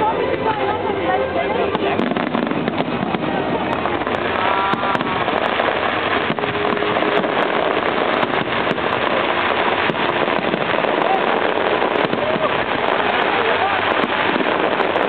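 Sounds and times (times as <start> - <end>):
aerial fireworks barrage: 1.7 - 15.0.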